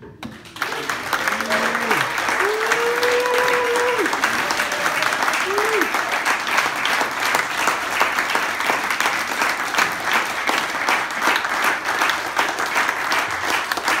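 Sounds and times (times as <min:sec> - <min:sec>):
small audience applauding: 0:00.2 - 0:14.0.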